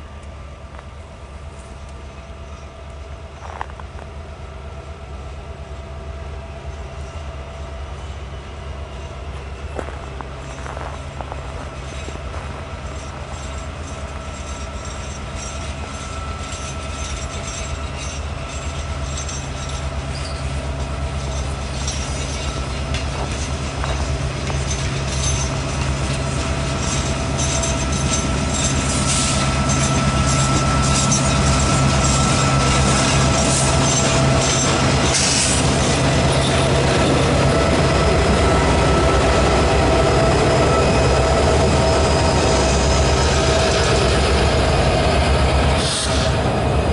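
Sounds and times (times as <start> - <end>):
diesel locomotive drone: 0.0 - 46.9
train wheels squealing and clicking: 1.6 - 4.2, 6.5 - 46.9.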